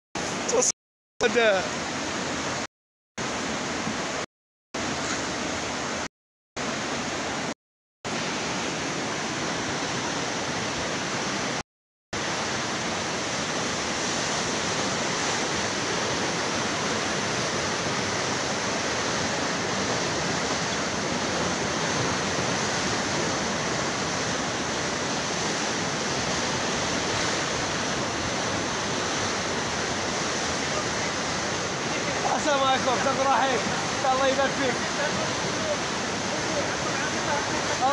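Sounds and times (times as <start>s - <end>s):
floodwater rushing down a channel: 0.2s - 11.6s, 12.2s - 37.9s.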